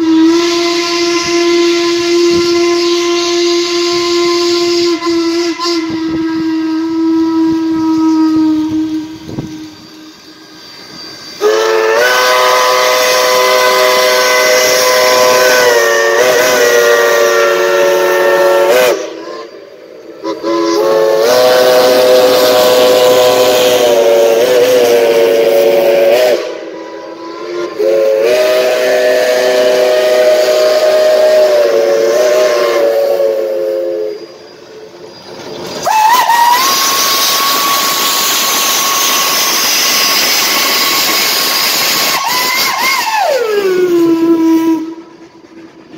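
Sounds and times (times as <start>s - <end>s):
hissing steam: 0.0s - 45.9s
steam locomotive whistle: 0.0s - 45.9s.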